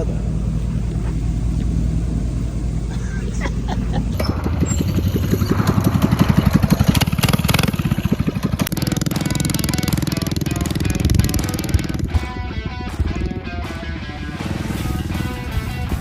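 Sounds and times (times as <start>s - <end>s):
vehicle engine idling: 0.0s - 16.0s
small engine revving: 1.0s - 16.0s.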